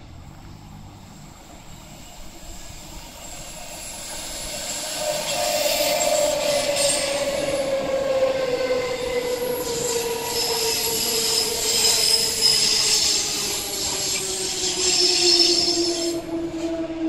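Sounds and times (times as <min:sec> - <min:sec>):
rumble of train cars: 0:00.0 - 0:17.0
wheel squeal: 0:01.6 - 0:16.7.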